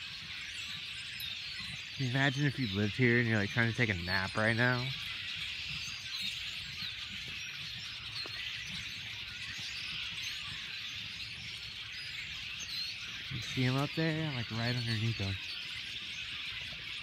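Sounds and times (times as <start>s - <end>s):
flock of birds chirping: 0.0s - 17.0s.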